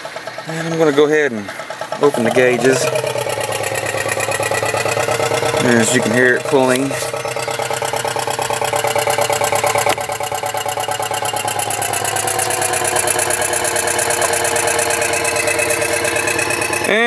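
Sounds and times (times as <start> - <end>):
vacuum pump pulsing: 0.0 - 17.0.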